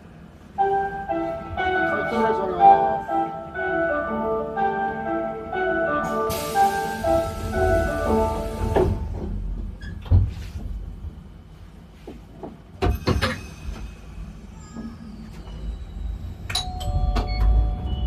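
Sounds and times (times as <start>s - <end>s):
tram humming: 0.0s - 18.0s.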